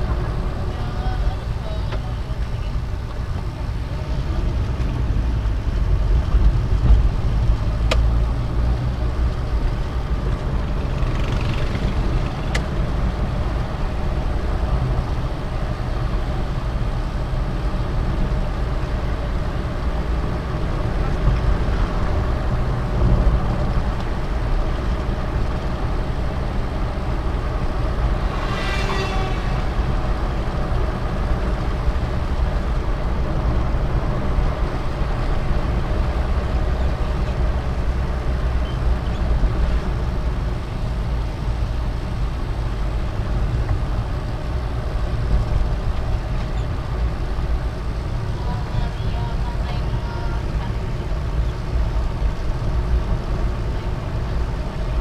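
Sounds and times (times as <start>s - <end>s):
engine and road drone: 0.0s - 55.0s.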